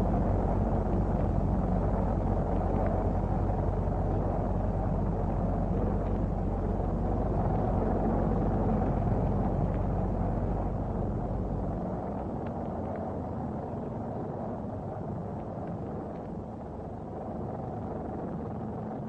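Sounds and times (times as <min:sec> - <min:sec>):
rocket engine rumble: 0:00.0 - 0:19.0.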